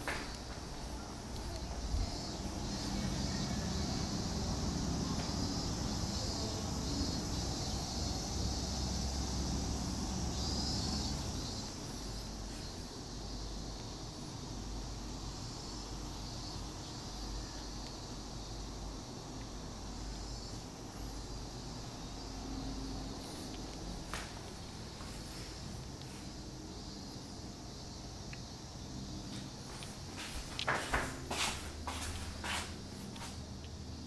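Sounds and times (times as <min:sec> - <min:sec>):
high hiss: 0:00.0 - 0:34.0.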